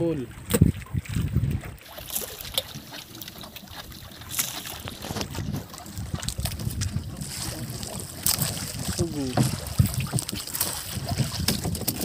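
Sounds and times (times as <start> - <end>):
water around boat: 0.0 - 12.0
wind: 0.0 - 12.0.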